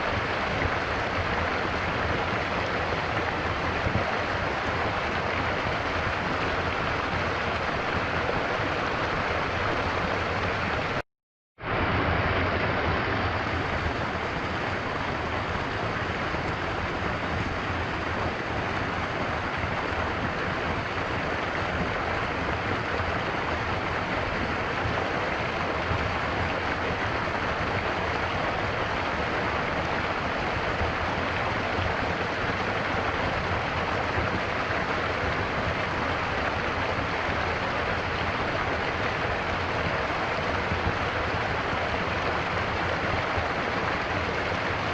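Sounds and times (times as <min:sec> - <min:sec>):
stream flowing: 0:00.0 - 0:11.0, 0:11.6 - 0:44.9.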